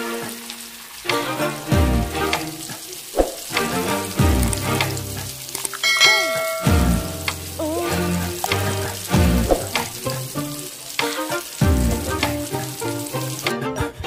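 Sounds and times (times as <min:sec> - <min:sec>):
chicken deep-frying in oil: 0:00.0 - 0:13.6
background music with deep bass: 0:01.0 - 0:02.8, 0:03.5 - 0:14.0.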